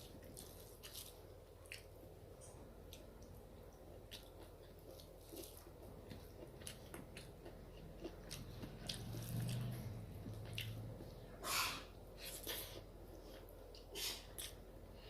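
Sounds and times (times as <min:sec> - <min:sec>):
person chewing food: 0:00.0 - 0:14.7.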